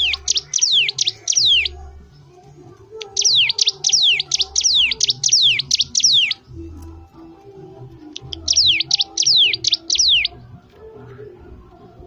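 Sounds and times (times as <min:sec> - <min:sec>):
caged bird singing sharp notes: 0:00.0 - 0:07.2, 0:08.0 - 0:10.5.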